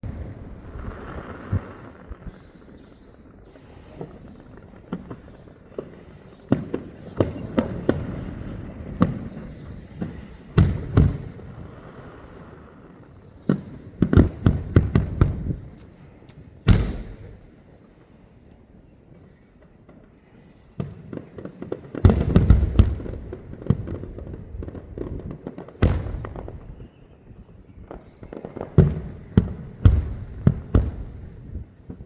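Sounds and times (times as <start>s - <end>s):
fireworks bangs: 0.0s - 17.6s, 19.6s - 32.0s.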